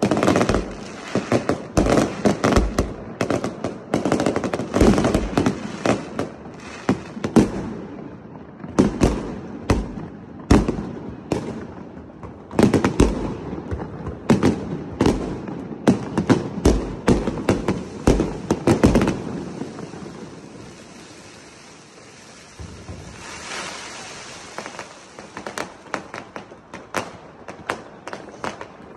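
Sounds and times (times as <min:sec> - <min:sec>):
fireworks bangs: 0:00.0 - 0:28.9.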